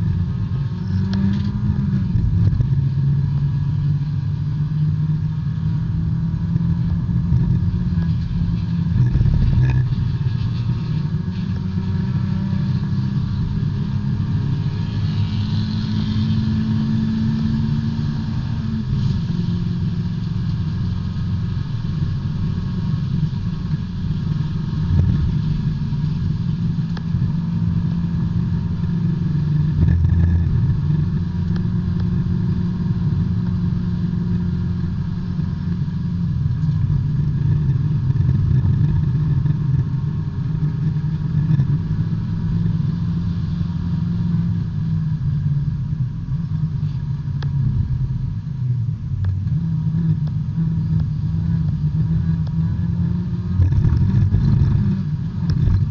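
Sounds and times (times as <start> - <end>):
race car engine running hard: 0.0 - 55.9.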